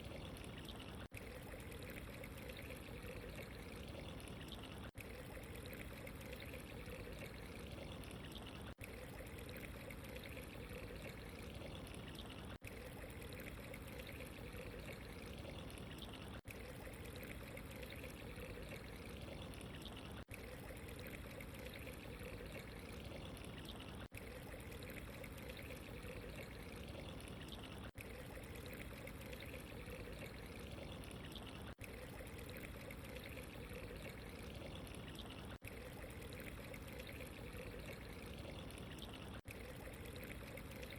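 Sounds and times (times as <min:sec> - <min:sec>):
running water trickling: 0:00.0 - 0:40.9.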